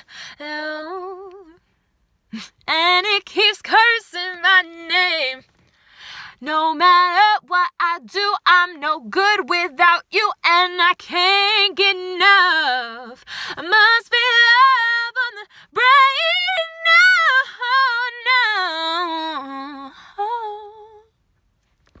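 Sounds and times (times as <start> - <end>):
woman singing unaccompanied: 0.4 - 1.6, 2.4 - 5.5, 6.3 - 21.1.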